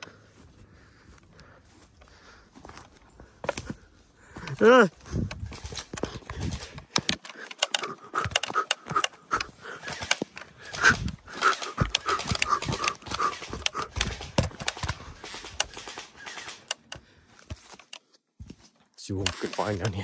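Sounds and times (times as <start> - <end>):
footsteps crunching twigs and leaves: 0.1 - 16.4, 17.3 - 20.0.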